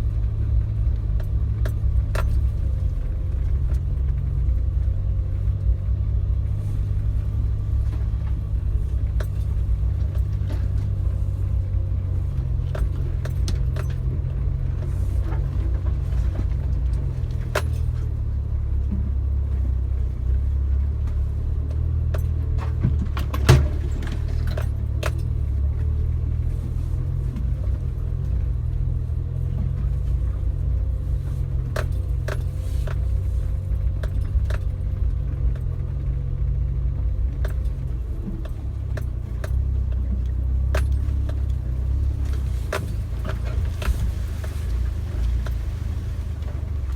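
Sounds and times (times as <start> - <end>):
light clicks and rattles: 0.0 - 46.9
vehicle engine low rumble: 0.0 - 46.9.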